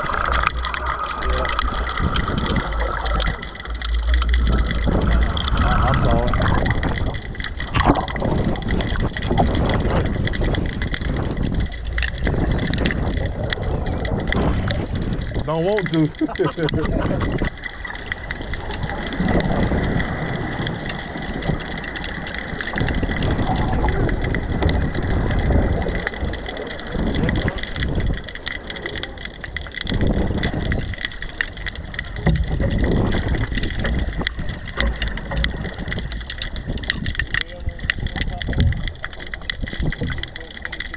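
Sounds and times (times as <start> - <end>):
wind buffeting microphone: 0.0 - 40.7
small clicks and knocks: 0.0 - 40.9
surf breaking: 0.0 - 40.9.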